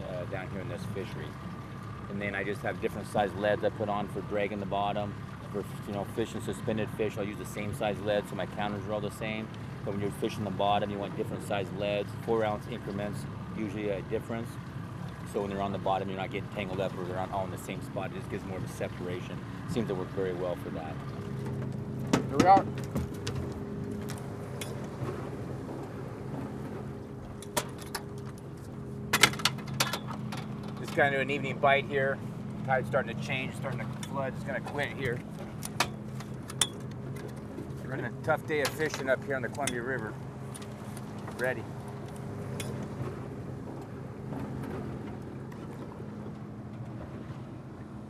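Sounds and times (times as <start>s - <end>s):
outboard motor humming: 0.0s - 48.0s.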